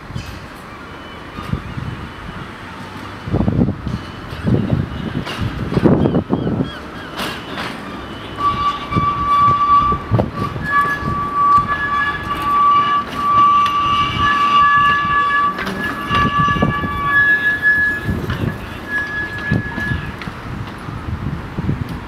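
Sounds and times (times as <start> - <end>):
rolling rumble of tram: 0.0 - 22.0
tram wheels squealing on track: 0.1 - 20.9
wheels clicking on rails: 2.8 - 22.0.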